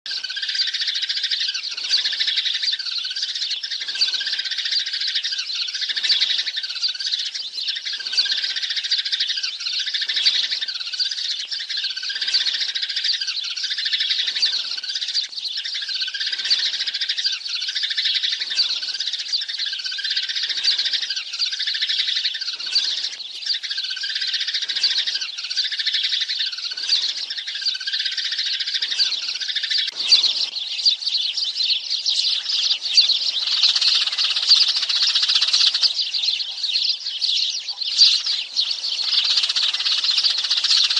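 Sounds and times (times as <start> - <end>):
sparrows chirping: 0.1 - 40.9.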